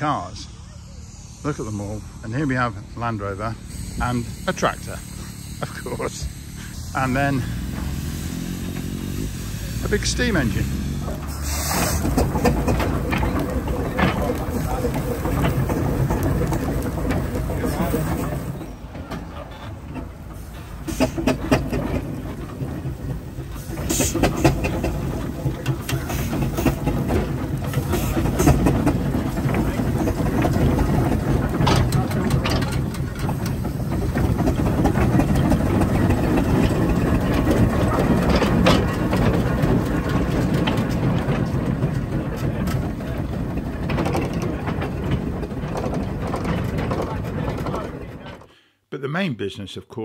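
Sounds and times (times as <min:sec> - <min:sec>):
steam traction engine clatter: 0:00.0 - 0:48.5.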